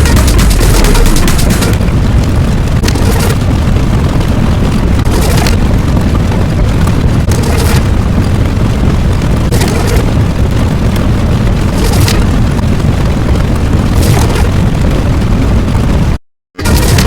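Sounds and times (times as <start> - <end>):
loud low rumbling: 0.0 - 16.1.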